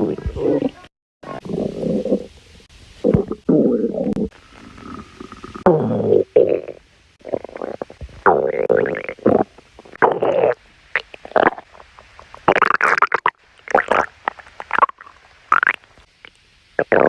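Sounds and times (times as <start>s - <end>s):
stomach growling: 0.0s - 2.4s, 3.0s - 17.0s.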